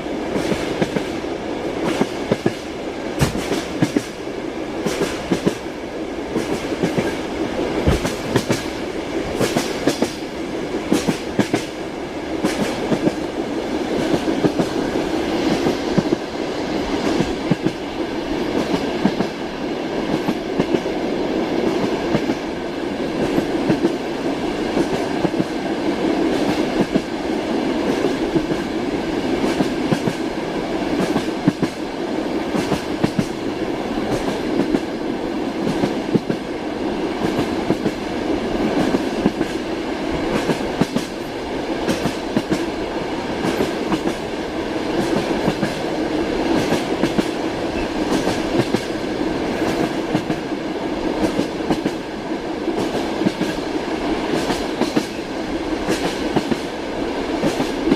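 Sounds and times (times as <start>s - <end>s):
train wheels clacking: 0.0s - 4.2s, 4.8s - 5.7s, 6.3s - 11.8s, 12.4s - 16.3s, 17.0s - 20.9s, 21.6s - 33.4s, 34.0s - 36.5s, 37.2s - 42.8s, 43.4s - 57.9s.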